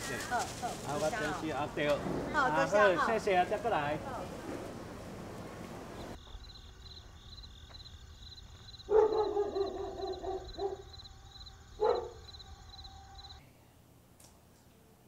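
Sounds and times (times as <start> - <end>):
insects chirping: 0.0 - 13.4.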